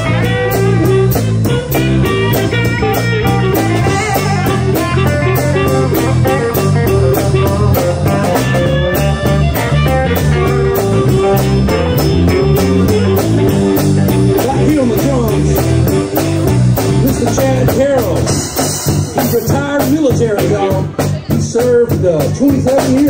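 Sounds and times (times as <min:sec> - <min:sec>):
bass: 0:00.0 - 0:23.0
drum beat: 0:00.0 - 0:23.0
electric guitar: 0:00.0 - 0:23.0.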